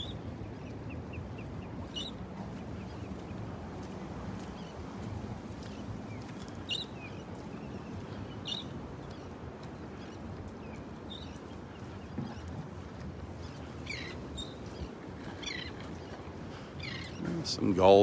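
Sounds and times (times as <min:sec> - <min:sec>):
gulls calling: 0:00.0 - 0:03.8, 0:05.6 - 0:18.0.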